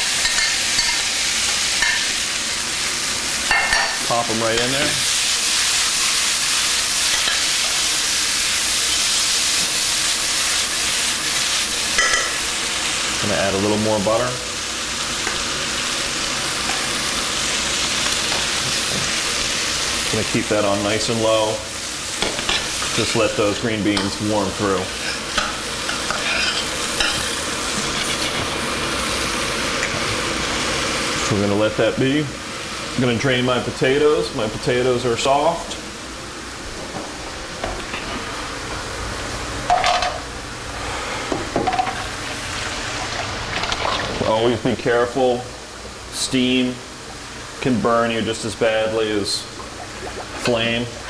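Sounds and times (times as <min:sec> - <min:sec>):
green beans sizzling in a pan: 0:00.0 - 0:51.0.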